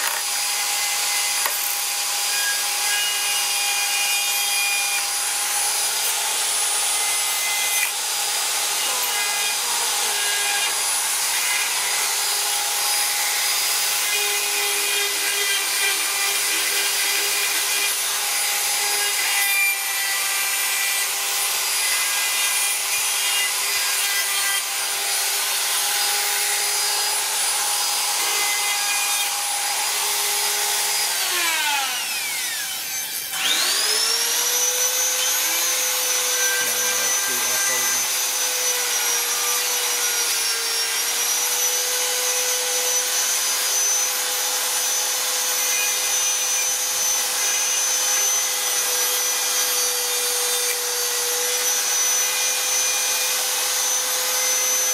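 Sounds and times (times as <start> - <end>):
rotary carving tool whining: 0.0 - 54.9.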